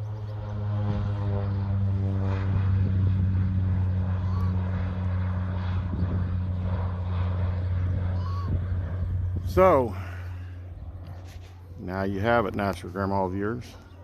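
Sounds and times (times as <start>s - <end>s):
propeller airplane droning overhead: 0.0s - 14.0s.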